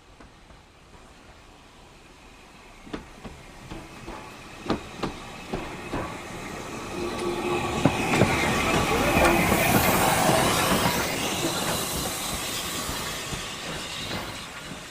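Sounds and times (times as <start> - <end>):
steam hiss: 0.0 - 14.9
train wheels clicking over joints: 2.8 - 14.9.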